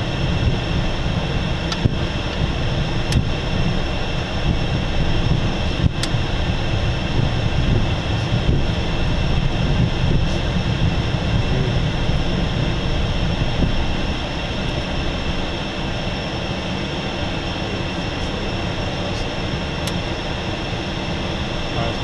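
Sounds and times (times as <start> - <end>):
high steady engine whine: 0.0 - 22.0
jet engine and airflow rumble: 0.0 - 22.0.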